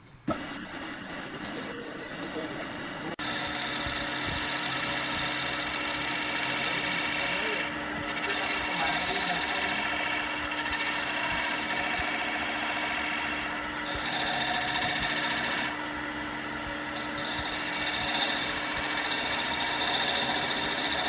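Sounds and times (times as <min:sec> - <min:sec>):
wood lathe humming and whining: 0:00.0 - 0:21.0.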